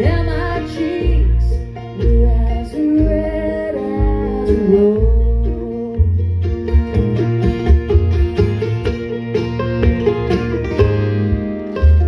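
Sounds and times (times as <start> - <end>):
bluegrass band playing: 0.0 - 12.0
upright bass notes: 0.0 - 12.0.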